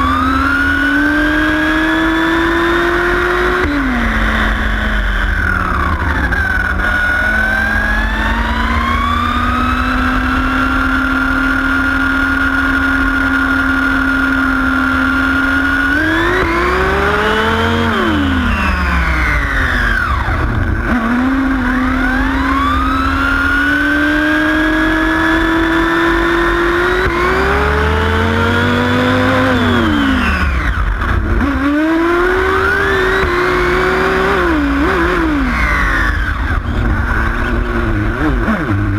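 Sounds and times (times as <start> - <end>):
small engine running at high revs: 0.0 - 38.9.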